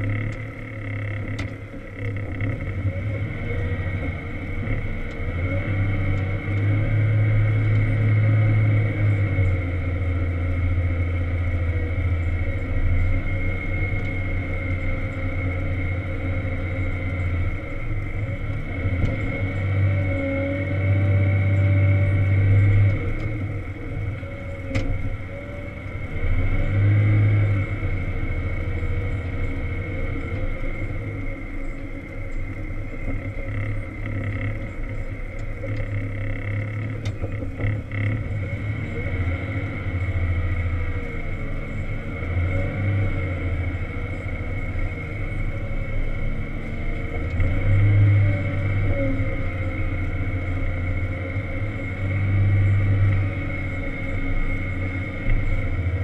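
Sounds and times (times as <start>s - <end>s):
diesel engine under load: 0.0s - 56.0s
steady high whine: 0.0s - 56.0s.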